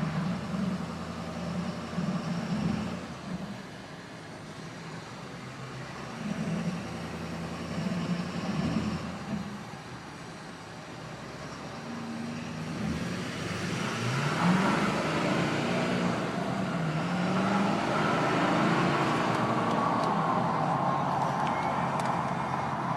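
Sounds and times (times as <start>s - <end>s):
diesel truck engine revving: 0.0s - 10.2s, 10.8s - 22.9s.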